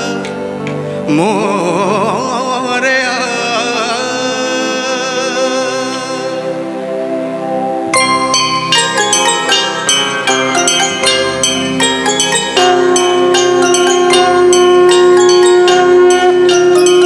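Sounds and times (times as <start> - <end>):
man singing with vibrato: 0.0 - 6.9, 9.0 - 17.0
sustained instrumental accompaniment: 0.0 - 17.0.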